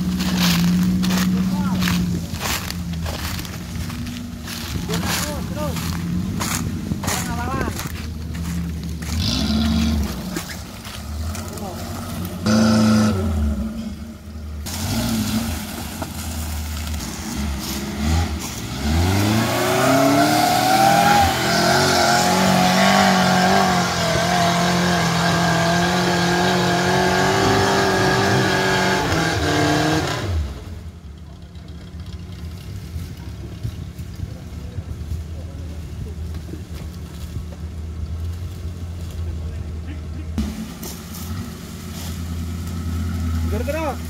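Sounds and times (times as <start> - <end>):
off-road vehicle engine revving: 0.0 - 44.0.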